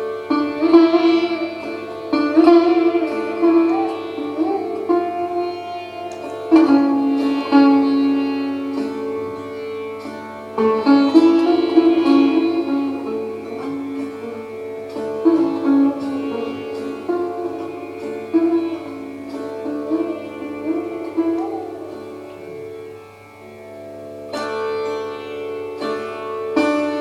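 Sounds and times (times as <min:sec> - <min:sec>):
sitar playing: 0:00.0 - 0:27.0.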